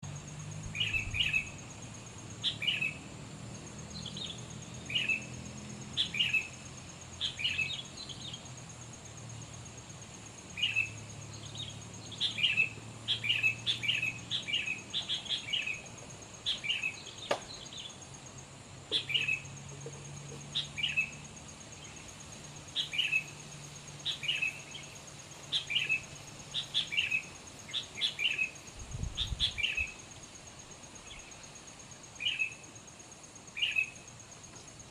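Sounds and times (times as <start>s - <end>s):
bird chirping: 0.0s - 34.8s.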